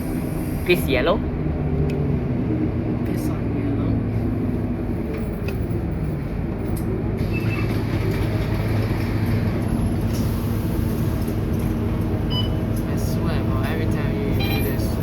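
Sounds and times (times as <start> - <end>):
bus diesel engine hum: 0.0 - 15.0
road and body noise: 0.0 - 15.0.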